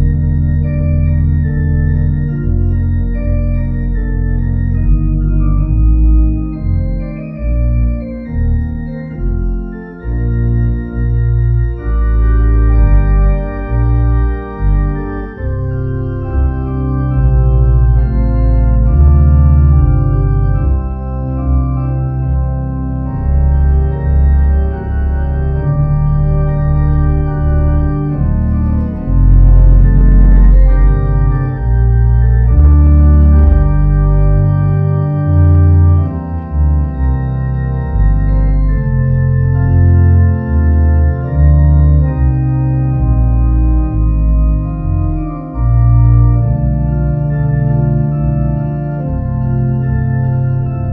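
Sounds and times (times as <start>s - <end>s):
organ playing slow chords: 0.0s - 50.9s.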